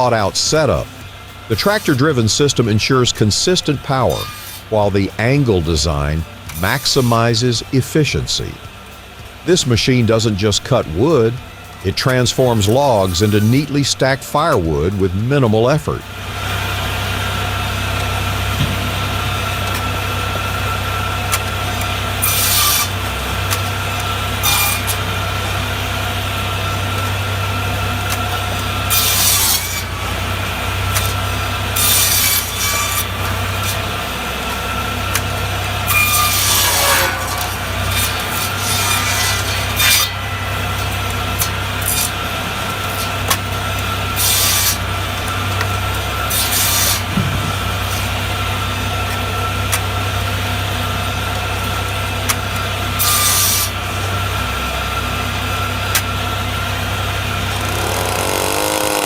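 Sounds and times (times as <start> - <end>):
firewood processor running: 0.0 - 59.0
saw grinding through logs: 0.0 - 59.0.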